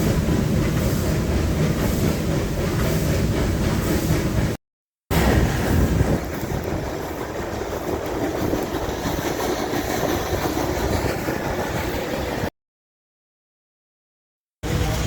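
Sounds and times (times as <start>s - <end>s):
train wheels rumbling: 0.0s - 12.5s.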